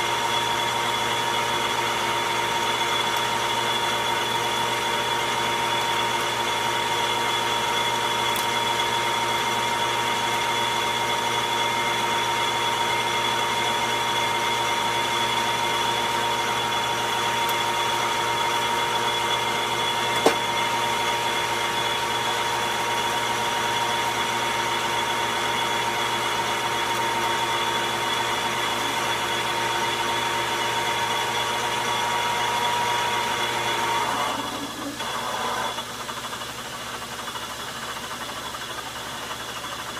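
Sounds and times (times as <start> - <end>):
metal lathe whining: 0.0 - 39.9.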